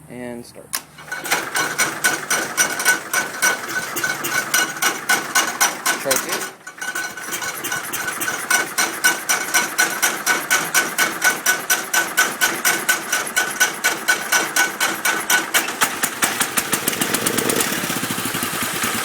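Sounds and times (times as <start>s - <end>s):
engine cranking over by starter: 0.7s - 19.0s.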